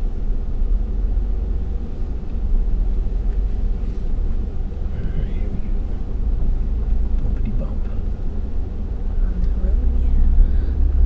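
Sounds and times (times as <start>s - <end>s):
road and engine rumble in truck cab: 0.0s - 11.0s.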